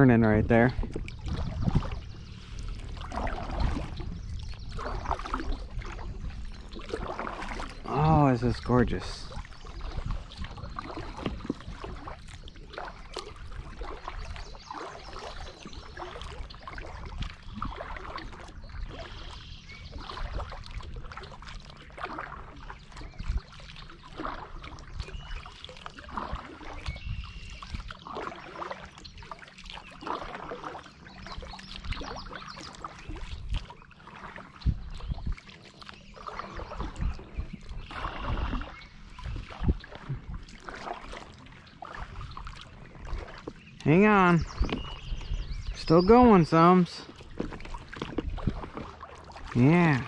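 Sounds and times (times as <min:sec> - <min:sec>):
kayak paddle strokes in water: 0:00.0 - 0:50.0.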